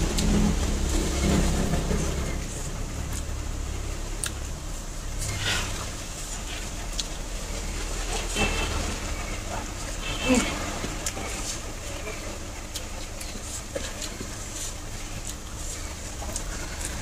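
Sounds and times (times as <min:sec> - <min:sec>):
eating from metal plates: 0:00.0 - 0:17.0.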